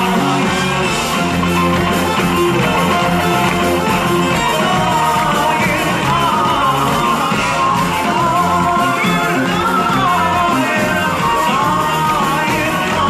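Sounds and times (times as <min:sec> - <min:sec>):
drums: 0:00.0 - 0:13.0
electric guitar: 0:00.0 - 0:13.0
person singing: 0:00.0 - 0:13.0.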